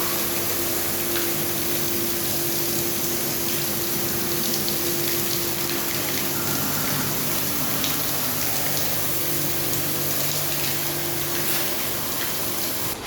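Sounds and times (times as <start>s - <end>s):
pressure washer spraying water: 0.0s - 13.0s
pump humming: 0.0s - 13.0s.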